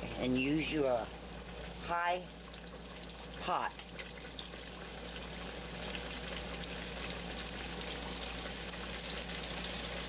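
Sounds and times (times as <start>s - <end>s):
deep-frying sizzle and crackle: 0.0s - 10.0s.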